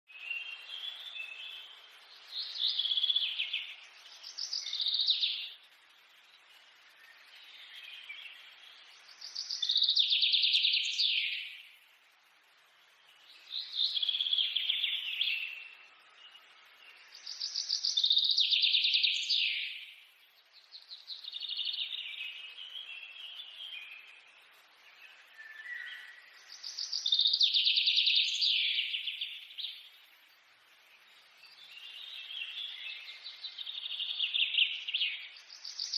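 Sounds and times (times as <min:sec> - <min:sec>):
soft bird twittering: 0:00.1 - 0:11.9, 0:12.8 - 0:35.9.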